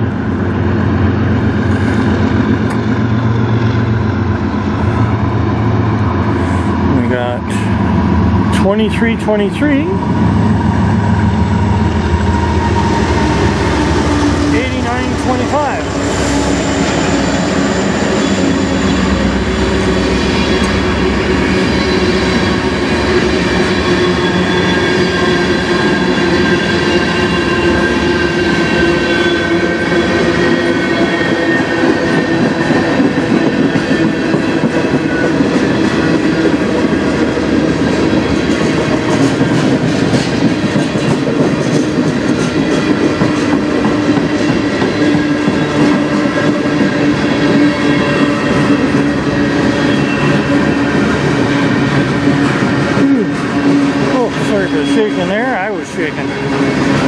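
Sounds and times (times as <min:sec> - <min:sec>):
train wheels rumbling on rails: 0:00.0 - 0:57.0
wheels ringing whine: 0:10.1 - 0:57.0.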